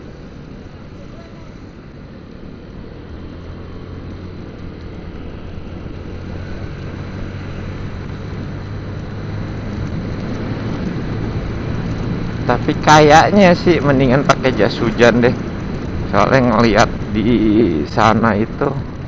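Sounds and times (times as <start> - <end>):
motorcycle engine hum: 0.0 - 19.0
wind and road noise: 0.0 - 19.0.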